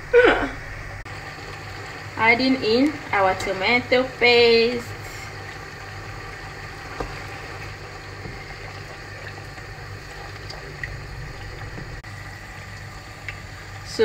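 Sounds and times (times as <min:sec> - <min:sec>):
low steady hum: 0:00.0 - 0:14.0
stew simmering and sizzling: 0:00.2 - 0:14.0.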